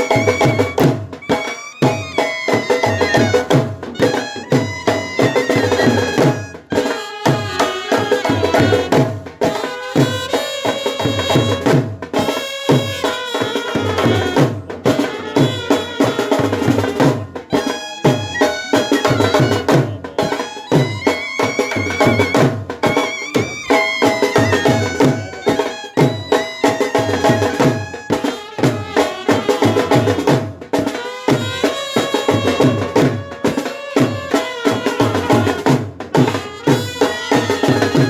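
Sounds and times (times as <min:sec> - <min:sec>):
brass band playing a melody: 0:00.0 - 0:38.0
repeating drum beat: 0:00.0 - 0:38.0.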